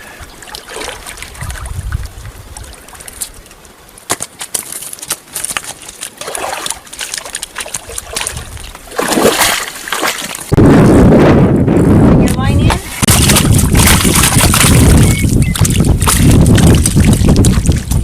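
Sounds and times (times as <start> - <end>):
water splashing and dribbling: 0.0 - 10.6, 12.3 - 18.0.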